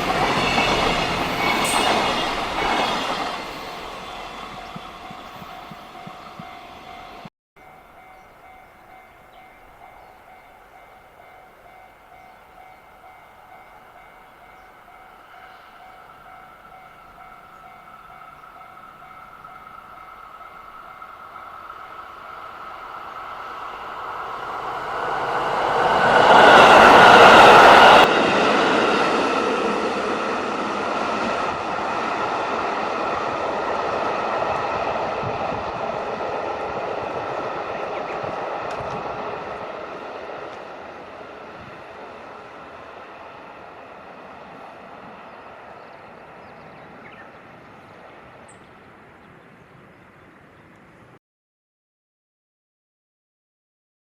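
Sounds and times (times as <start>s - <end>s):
faint rail tones: 0.0s - 50.0s
train rumbling across steel bridge: 0.0s - 51.2s.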